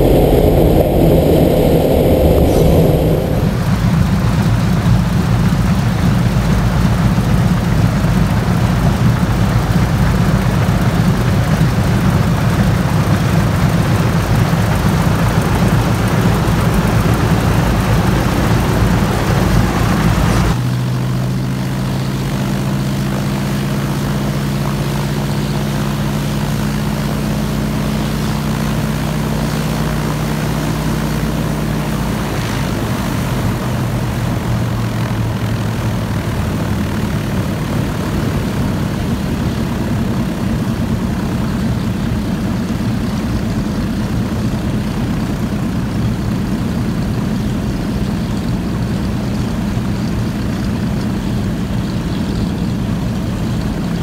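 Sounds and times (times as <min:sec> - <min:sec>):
radial aircraft engine running: 0:00.0 - 0:54.0.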